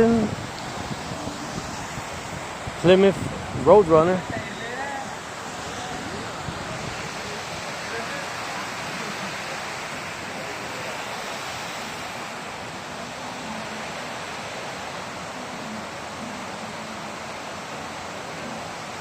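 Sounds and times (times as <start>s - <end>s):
rushing hiss of outdoor noise: 0.0s - 19.0s.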